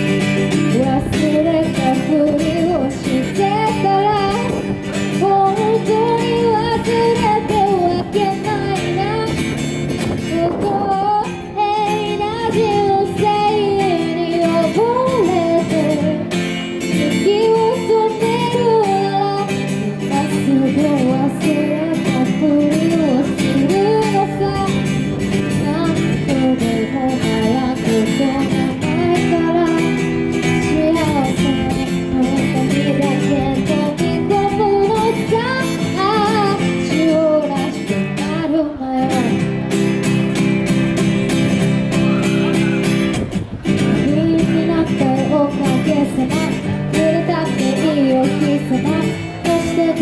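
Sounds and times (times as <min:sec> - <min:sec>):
woman singing: 0:00.0 - 0:39.8, 0:43.8 - 0:50.0
strummed acoustic guitar: 0:00.0 - 0:50.0.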